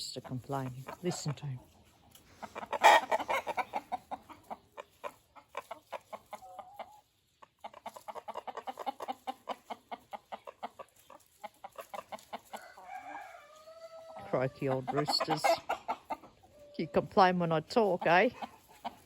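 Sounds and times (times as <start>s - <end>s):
rooster clucking: 0.0s - 19.0s.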